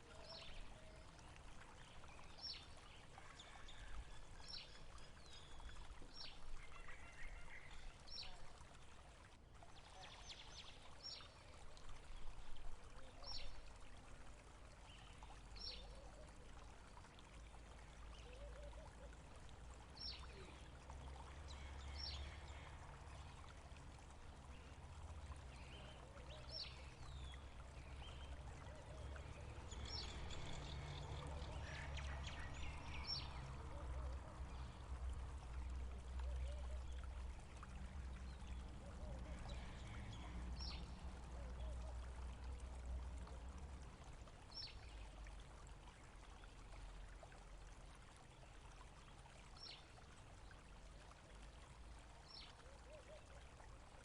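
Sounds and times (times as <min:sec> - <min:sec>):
trickling water: 0:00.0 - 0:54.0.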